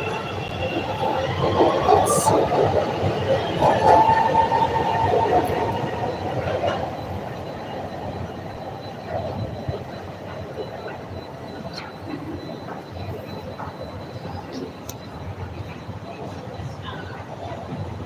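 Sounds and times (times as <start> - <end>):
train wheel-on-rail rumble: 0.0 - 18.0.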